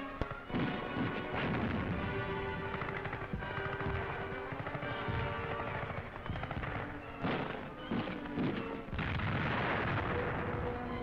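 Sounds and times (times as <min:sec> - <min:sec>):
background music with sustained tones: 0:00.0 - 0:11.0
rapid gunfire: 0:00.5 - 0:11.0.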